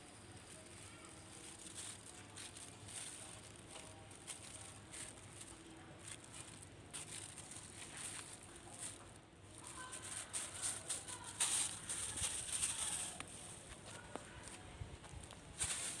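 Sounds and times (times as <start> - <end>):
rustling: 0.1 - 16.0.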